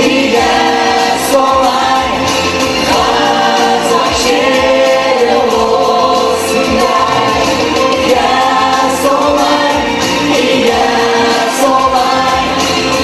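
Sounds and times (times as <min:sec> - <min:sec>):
group singing together: 0:00.0 - 0:13.0
music: 0:00.0 - 0:13.0.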